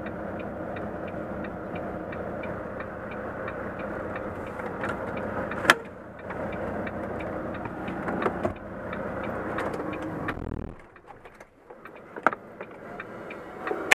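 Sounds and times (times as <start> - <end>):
diesel truck engine idling: 0.0 - 13.9
faint regular ticking: 0.0 - 14.0
sharp clicks: 0.8 - 13.8.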